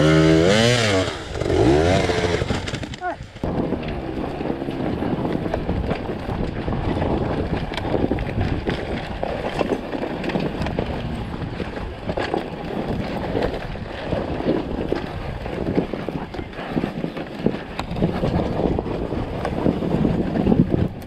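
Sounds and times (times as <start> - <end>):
clatter of bumps and knocks: 0.0 - 21.0
dirt bike rolling: 0.0 - 21.0
wind buffeting microphone: 0.0 - 21.0.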